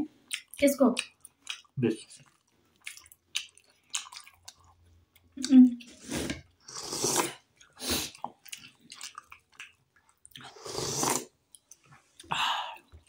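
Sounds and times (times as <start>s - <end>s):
wet chewing clicks: 0.3s - 12.3s.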